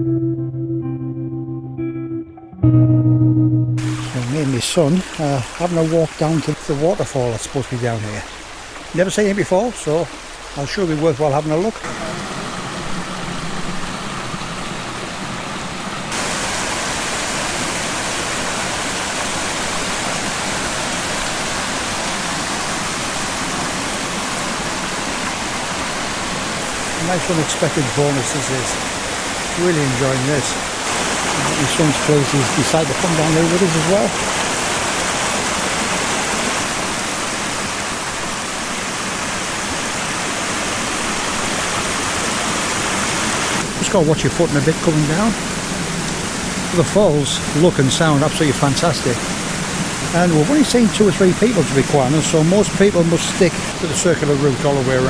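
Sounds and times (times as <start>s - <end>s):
stream water rushing over rocks: 3.8s - 55.0s.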